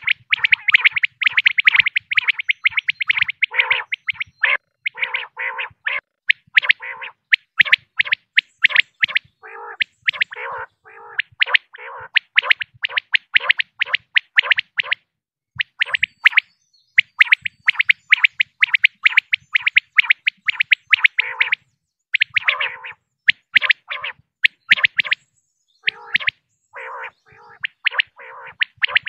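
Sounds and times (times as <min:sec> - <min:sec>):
quail chirping: 0:00.0 - 0:15.0, 0:15.6 - 0:25.2, 0:25.8 - 0:29.0.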